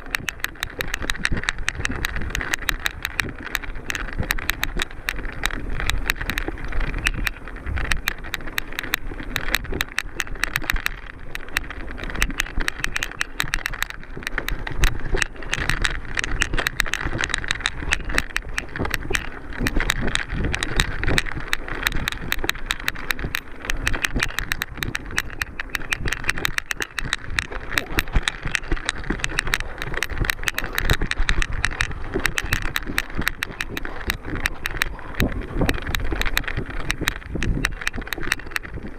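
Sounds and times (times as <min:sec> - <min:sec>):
mountain bike rattling: 0:00.0 - 0:38.9
tyre and wind noise: 0:00.0 - 0:38.9.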